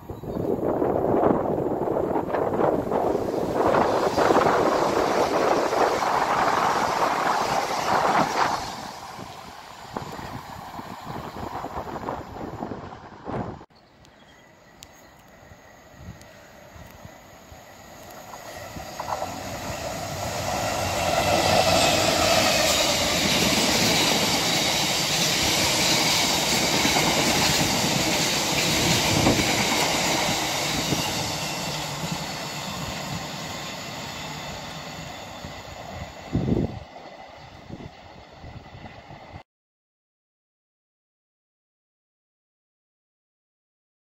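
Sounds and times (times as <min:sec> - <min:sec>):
train wheels rumbling on rail: 0:00.0 - 0:13.7, 0:15.2 - 0:39.4.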